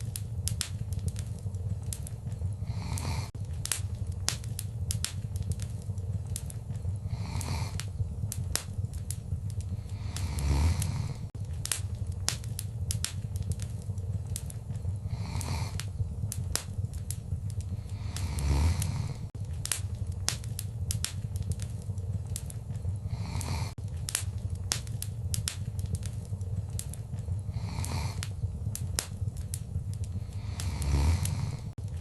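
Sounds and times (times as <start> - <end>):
low rumble of flames: 0.0 - 32.0
wood fire crackling and popping: 0.0 - 32.0.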